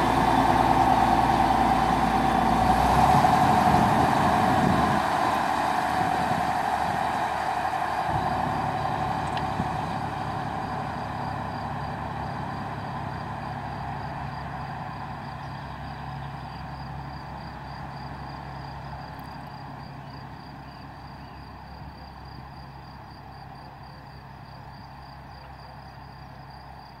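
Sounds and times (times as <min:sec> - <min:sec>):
train running noise on rails: 0:00.0 - 0:25.9
diesel train engine hum: 0:00.0 - 0:27.0.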